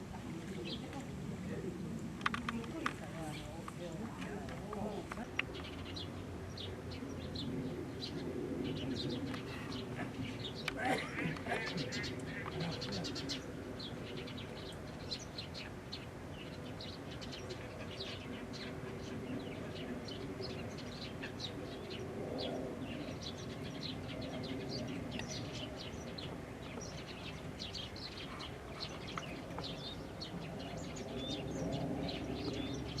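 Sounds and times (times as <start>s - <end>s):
wild birds chirping: 0.0s - 33.0s.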